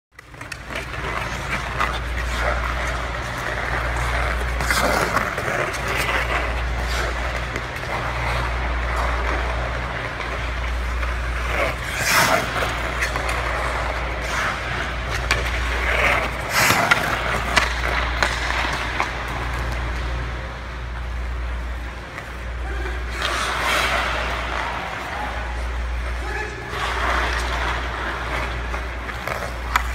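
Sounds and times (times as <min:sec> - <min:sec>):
skate blades scraping on ice: 0:00.2 - 0:29.9
steady low hum: 0:00.2 - 0:29.9.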